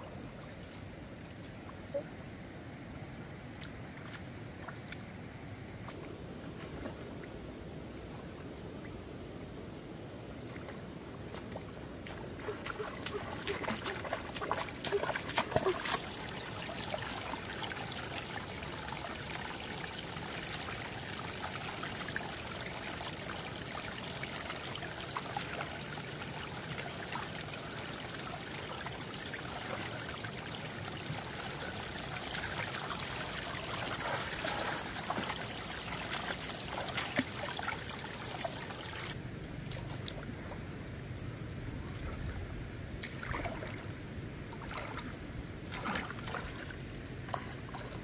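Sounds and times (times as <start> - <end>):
shallow water trickling and splashing: 0.0 - 2.4, 3.4 - 5.2, 10.3 - 40.6, 41.8 - 48.0.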